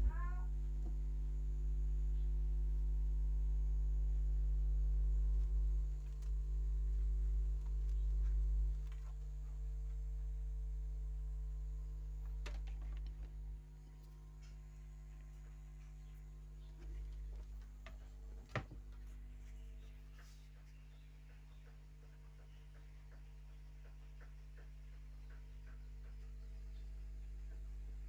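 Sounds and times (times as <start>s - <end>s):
subwoofer mains hum: 0.0s - 28.0s.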